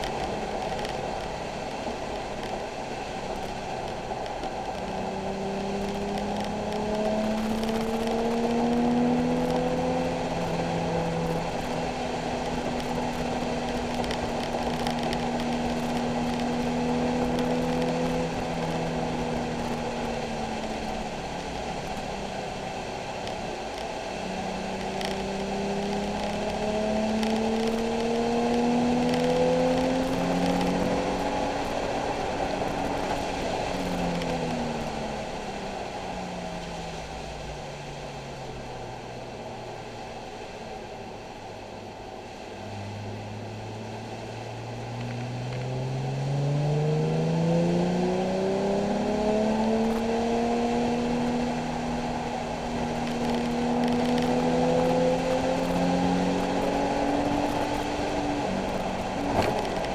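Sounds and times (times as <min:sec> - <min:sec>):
car engine revving: 0:03.0 - 0:39.6, 0:42.5 - 0:59.9.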